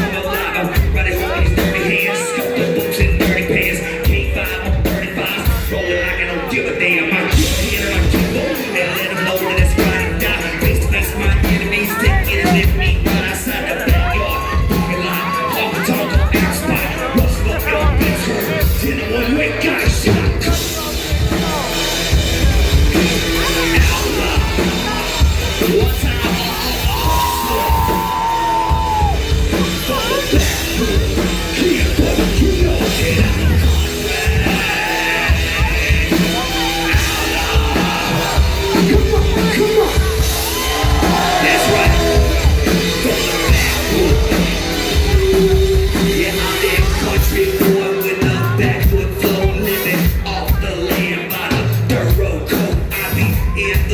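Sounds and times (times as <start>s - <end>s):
live country-rap band music: 0.0s - 53.9s
voices yelling and singing: 0.0s - 53.9s
heavy kick drum beat: 7.2s - 53.9s.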